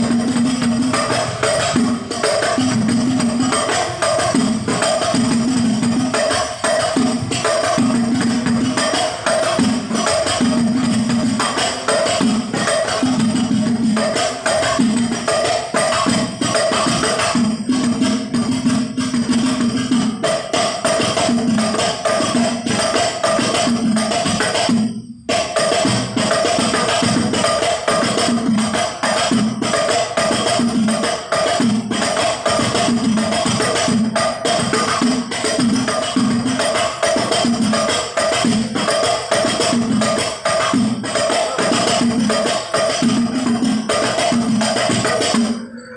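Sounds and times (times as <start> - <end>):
frame drums playing fast rhythm: 0.0 - 45.8.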